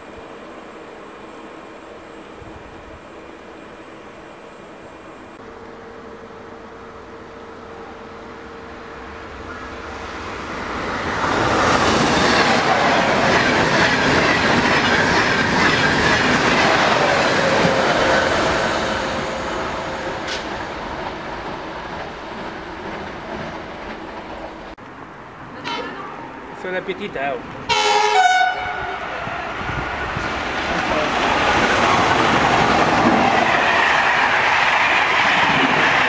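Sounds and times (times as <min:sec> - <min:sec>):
high-speed train passing: 0:00.0 - 0:36.0.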